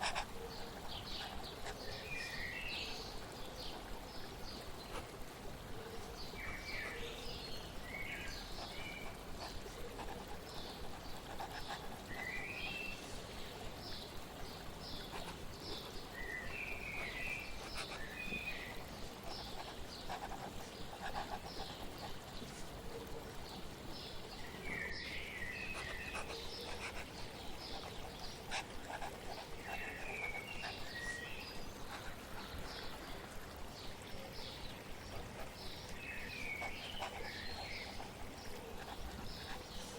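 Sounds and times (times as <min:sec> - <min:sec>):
birds chirping: 0:00.0 - 0:39.9
flowing water: 0:00.0 - 0:39.9.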